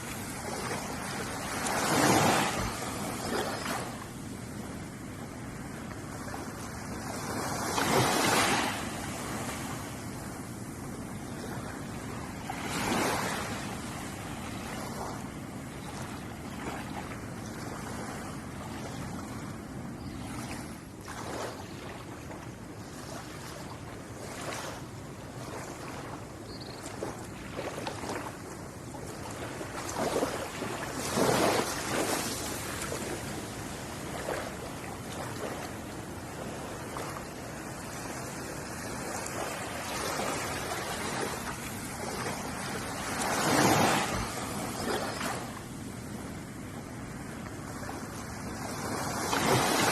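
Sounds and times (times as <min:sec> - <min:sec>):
ocean waves breaking on shore: 0:00.0 - 0:49.9.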